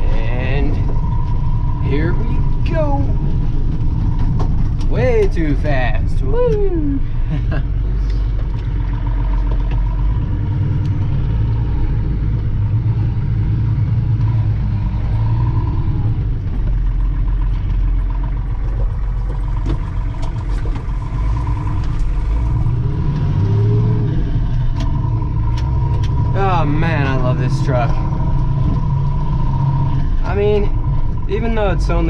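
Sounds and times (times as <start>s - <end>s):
truck engine rumbling: 0.0s - 32.0s.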